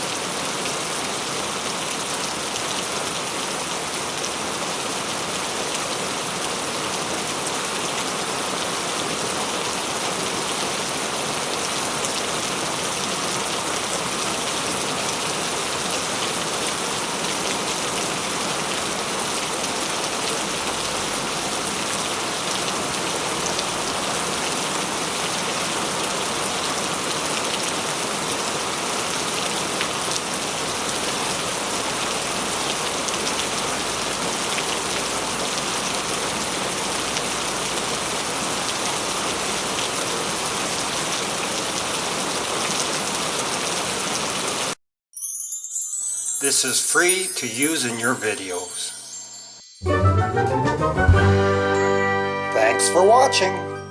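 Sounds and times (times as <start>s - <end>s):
heavy rain falling: 0.0s - 44.8s.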